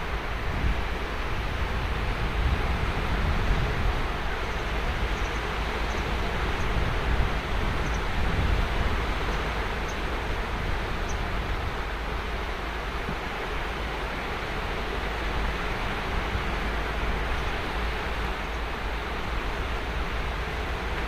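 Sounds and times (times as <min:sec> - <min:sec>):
ocean surf washing onto beach: 0:00.0 - 0:21.0.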